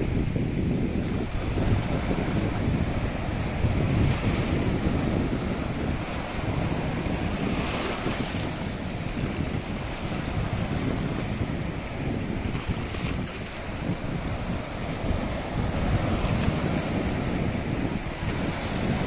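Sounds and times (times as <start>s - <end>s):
waves breaking on rocky shore: 0.1s - 19.0s.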